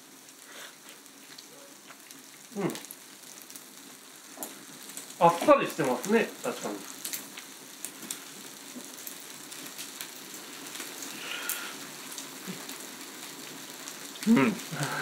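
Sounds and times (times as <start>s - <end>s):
meat sizzling with small pops: 0.0s - 15.0s.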